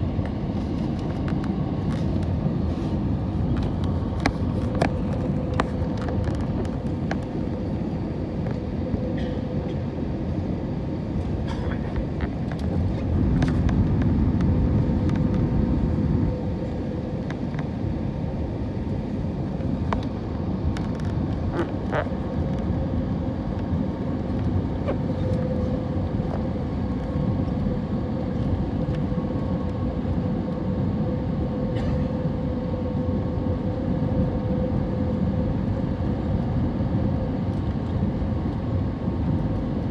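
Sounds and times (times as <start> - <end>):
airflow and engine rush: 0.0 - 39.9
constant hum tone: 0.0 - 39.9.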